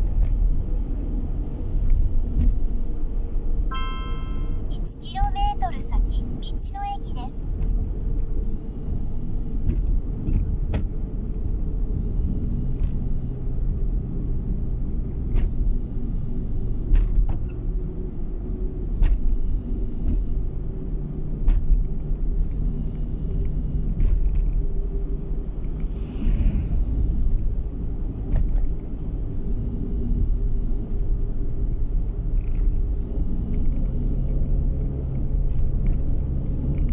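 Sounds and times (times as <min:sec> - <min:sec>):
car road noise rumble: 0:00.0 - 0:05.3, 0:07.4 - 0:36.9.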